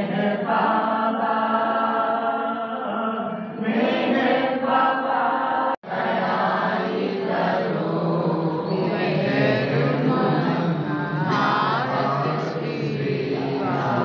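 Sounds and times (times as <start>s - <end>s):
group singing a hymn: 0.0s - 14.0s.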